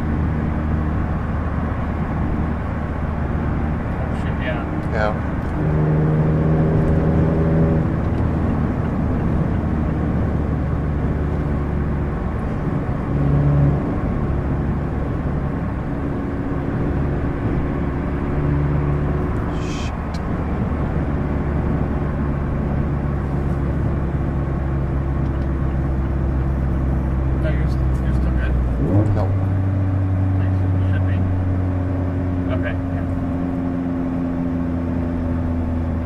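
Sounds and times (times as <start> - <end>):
car engine cruising: 0.0 - 36.0
wind and road noise: 0.0 - 36.0.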